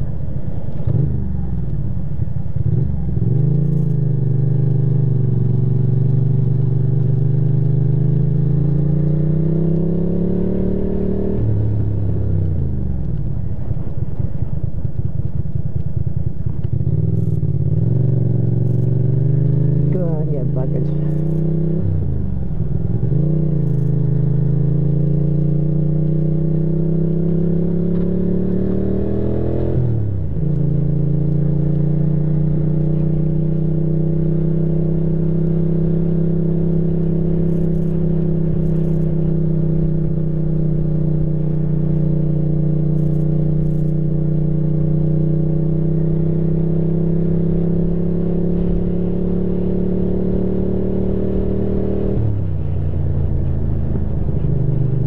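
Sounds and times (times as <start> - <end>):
motorcycle engine revving: 2.2 - 55.0.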